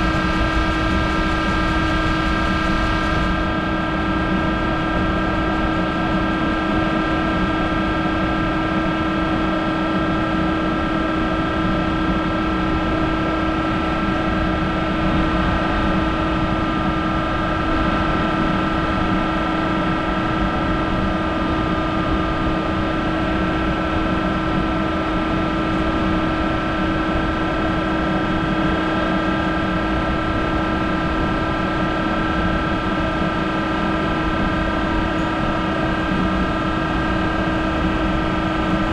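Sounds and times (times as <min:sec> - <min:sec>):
lathe machine hum with high whine: 0:00.0 - 0:38.9.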